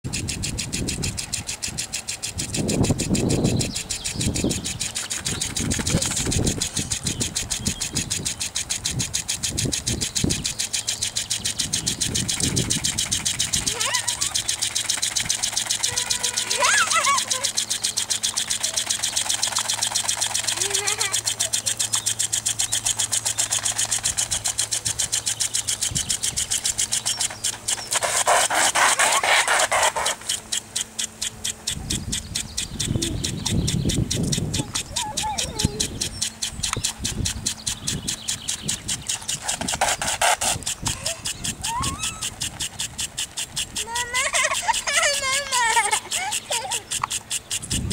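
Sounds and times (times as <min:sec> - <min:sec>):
lawn sprinkler ticking: 0:00.0 - 0:47.9.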